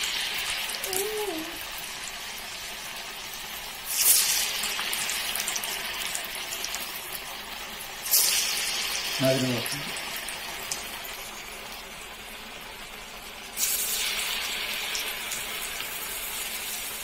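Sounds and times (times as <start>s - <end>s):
patties deep-frying in oil: 0.0s - 17.0s.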